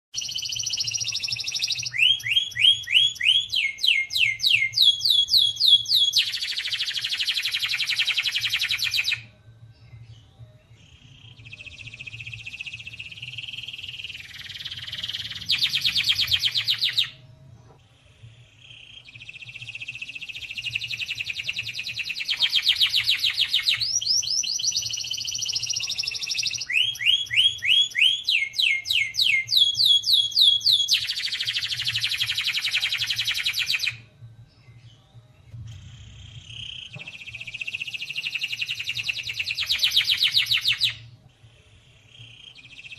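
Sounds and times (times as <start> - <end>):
canary singing with trills: 0.2 - 34.1, 34.8 - 42.9.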